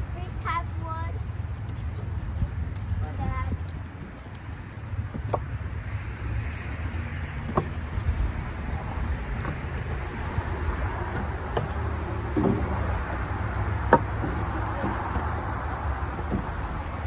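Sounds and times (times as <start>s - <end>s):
vehicle engine rumbling: 0.0s - 17.0s
firewood bundles knocking: 0.2s - 17.0s.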